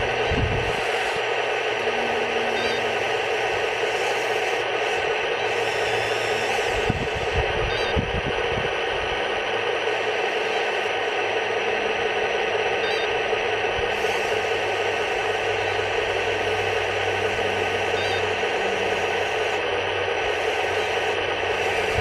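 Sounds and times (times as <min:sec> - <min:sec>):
tank engine sound through speaker: 0:00.0 - 0:22.0.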